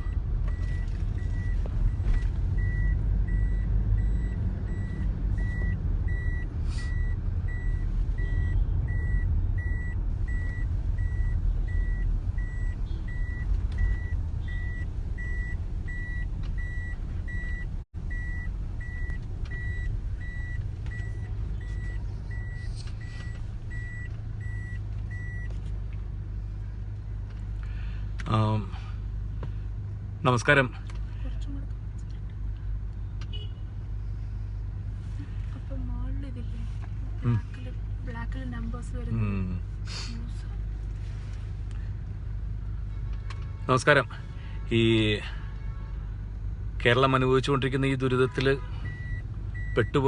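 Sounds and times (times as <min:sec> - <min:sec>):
vehicle rumbling: 0:00.0 - 0:50.0.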